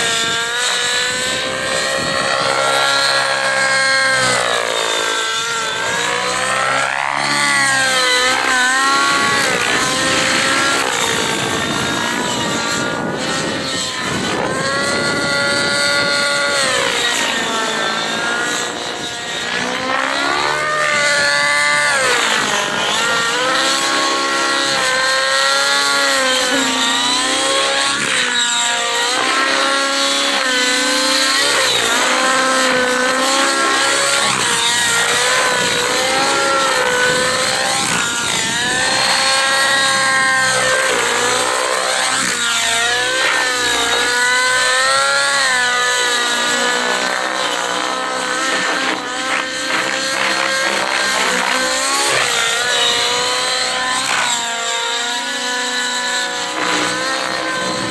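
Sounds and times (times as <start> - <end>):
rc helicopter engine and rotor: 0.0 - 57.9.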